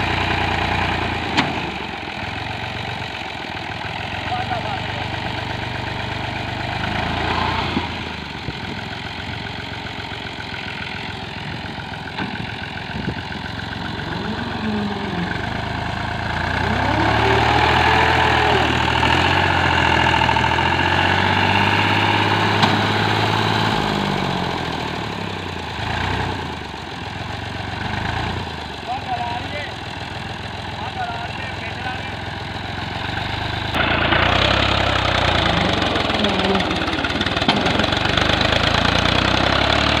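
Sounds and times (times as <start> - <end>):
tractor diesel engine under load: 0.0 - 40.0.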